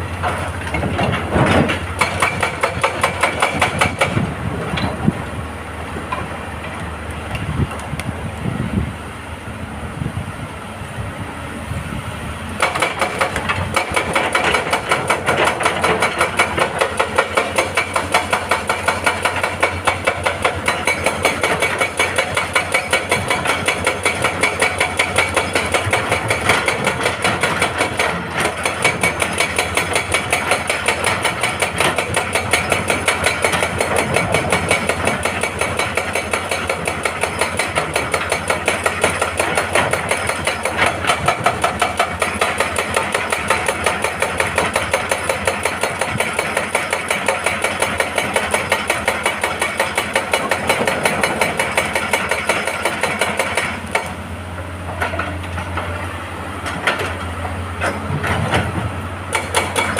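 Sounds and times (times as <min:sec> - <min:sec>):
excavator engine: 0:00.0 - 0:59.9
hydraulic breaker hammering rock: 0:00.2 - 0:05.2, 0:12.6 - 0:54.2, 0:54.8 - 0:59.9.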